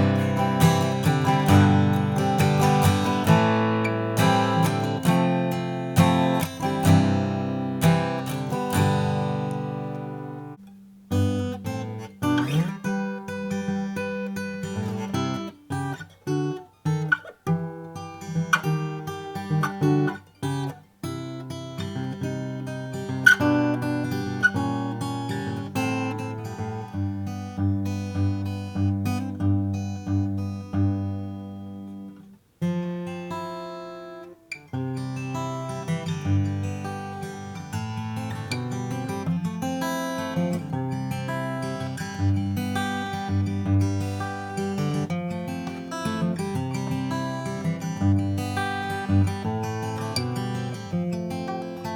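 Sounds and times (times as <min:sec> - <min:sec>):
acoustic guitar picking and strumming: 0:00.0 - 0:51.9.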